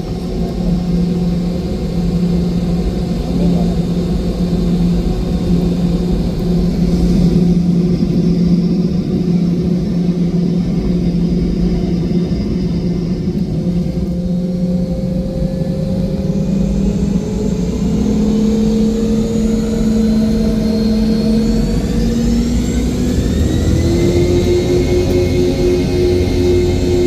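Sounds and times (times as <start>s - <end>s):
aircraft cabin engine drone: 0.0s - 27.0s.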